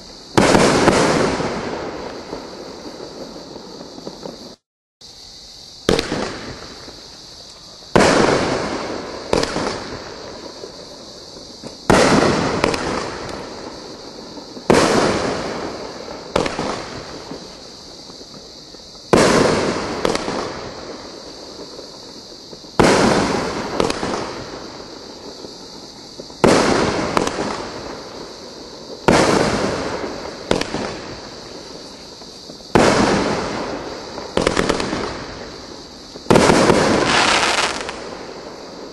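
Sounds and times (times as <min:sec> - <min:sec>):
fireworks bangs with echo: 0:00.0 - 0:04.6, 0:05.8 - 0:07.1, 0:07.7 - 0:38.9.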